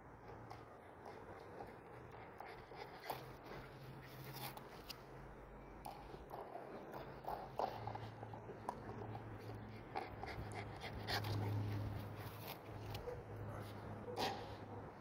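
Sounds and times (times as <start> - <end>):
small dog panting: 0.2 - 4.7, 5.9 - 14.6.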